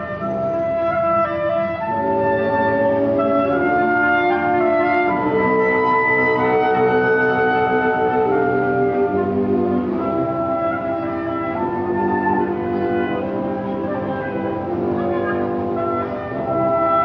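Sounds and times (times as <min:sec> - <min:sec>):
woodwinds and brass chords: 0:00.0 - 0:17.0.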